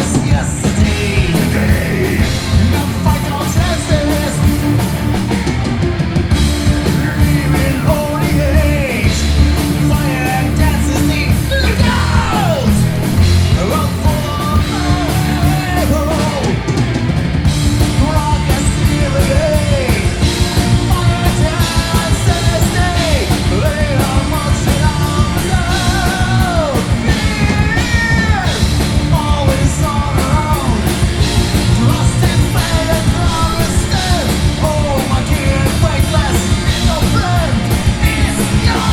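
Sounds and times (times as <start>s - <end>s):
person yelling lead vocal: 0.0s - 5.1s, 6.6s - 16.9s, 17.8s - 38.9s
punk rock band playing: 0.0s - 38.9s.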